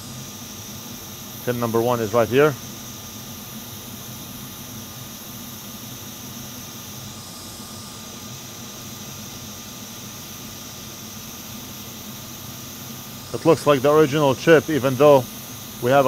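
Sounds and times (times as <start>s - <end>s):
hot air blower hissing: 0.0s - 16.0s
low fan hum: 0.0s - 16.0s.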